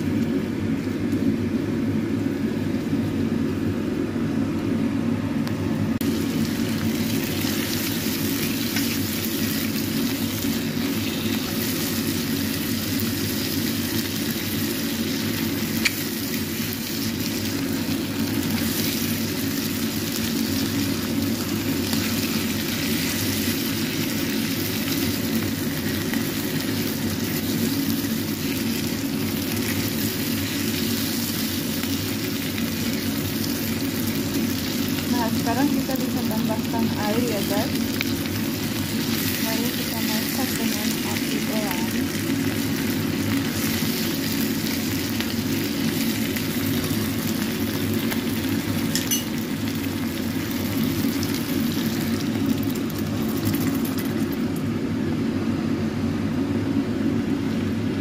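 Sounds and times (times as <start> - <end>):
steady low hum: 0.0 - 58.0
chicken sizzling in frying pan: 6.0 - 55.5.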